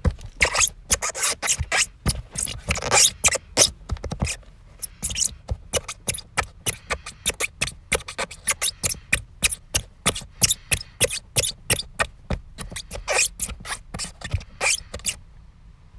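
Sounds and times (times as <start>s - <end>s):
short sharp squeaks: 0.3s - 15.2s.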